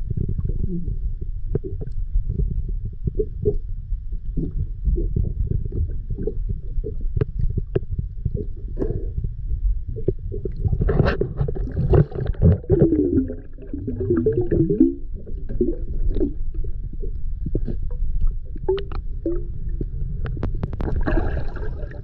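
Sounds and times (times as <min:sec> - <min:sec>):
small underwater clicks and knocks: 0:00.0 - 0:13.2, 0:14.1 - 0:22.0
underwater rumble of moving water: 0:00.0 - 0:22.0
gurgling rush of bubbles: 0:04.3 - 0:22.0.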